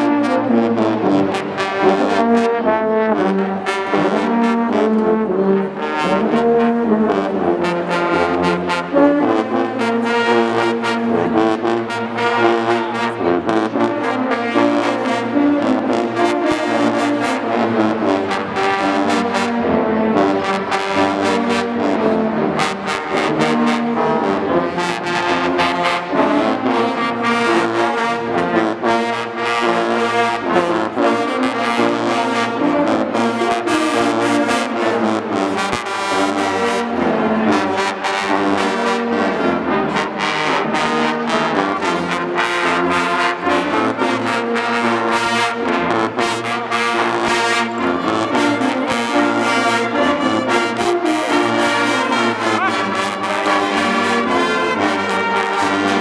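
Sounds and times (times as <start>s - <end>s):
brass band playing loudly: 0.0s - 56.0s.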